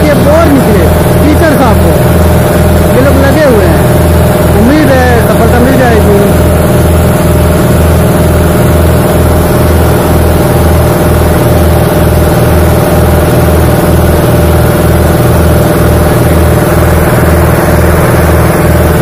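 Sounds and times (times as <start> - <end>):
petrol engine running loudly: 0.0 - 19.0
steady whine: 0.0 - 19.0.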